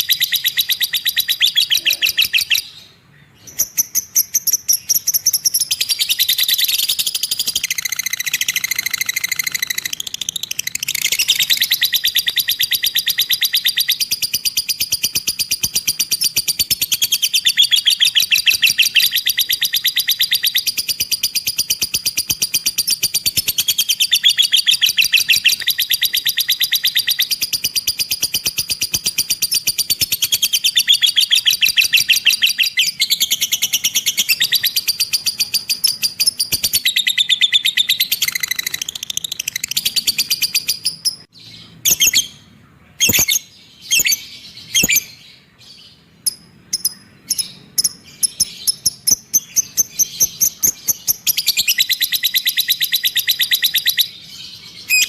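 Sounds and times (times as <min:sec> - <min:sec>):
lovebird chattering trill: 0:00.0 - 0:45.2, 0:46.2 - 0:55.0.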